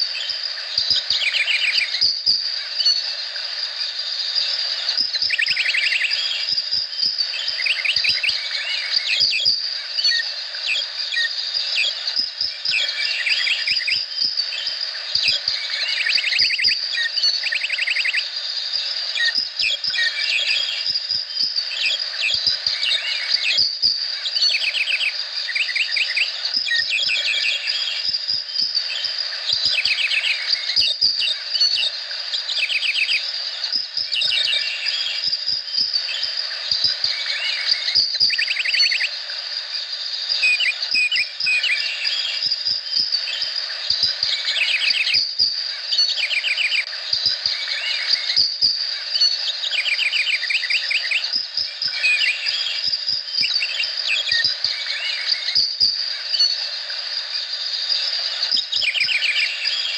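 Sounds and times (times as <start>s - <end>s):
chirps: 0.0s - 59.9s
fast trilled calls: 0.0s - 59.9s
high insect drone: 0.0s - 59.9s.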